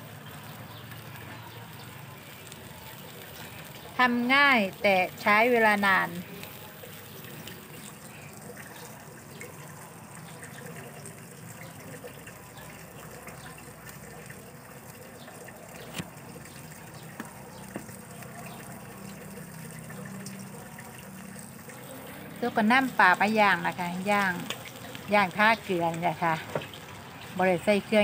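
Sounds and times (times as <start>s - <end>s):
fish sizzling on a grill: 0.0s - 28.0s.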